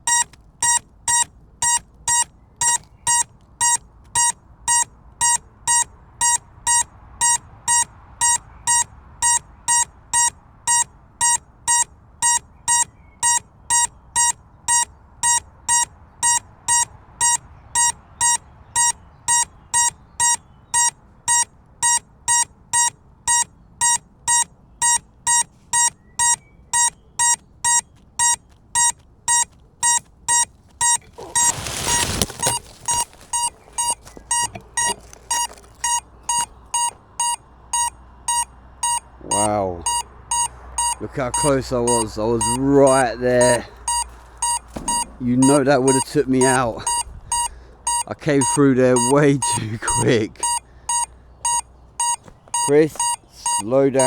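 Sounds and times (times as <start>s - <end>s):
short shrill beeps: 0.0s - 53.7s.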